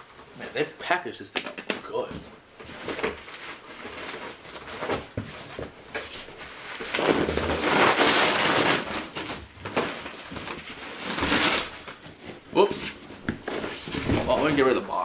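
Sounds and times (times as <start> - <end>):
packing material rustling: 2.6 - 15.0.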